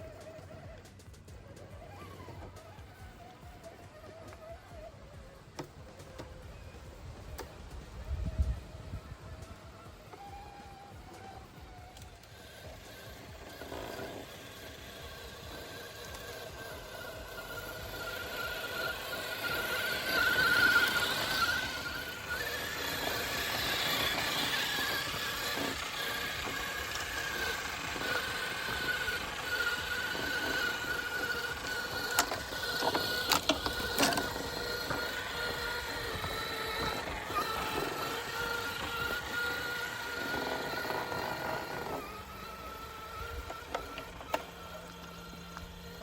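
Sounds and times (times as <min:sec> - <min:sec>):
toy car electric motor whining: 0:00.0 - 0:46.0.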